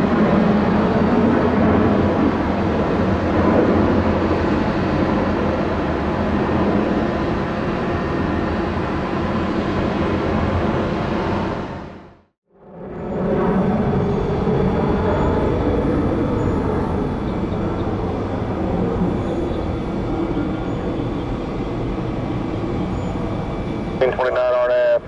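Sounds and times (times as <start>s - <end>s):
jet engines at high power: 0.0s - 25.0s.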